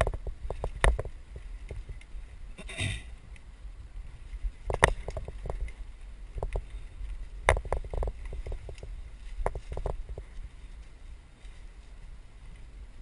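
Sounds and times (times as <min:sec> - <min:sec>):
bike tyres rumbling on trail: 0:00.0 - 0:13.0.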